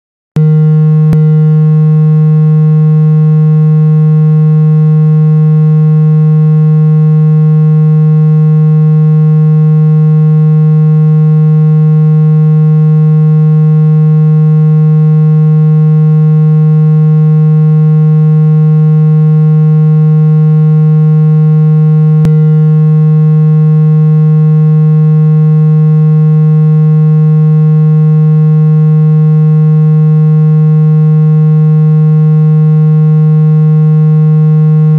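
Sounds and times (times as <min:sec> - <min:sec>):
low synthesized tone: 0:00.4 - 0:34.9.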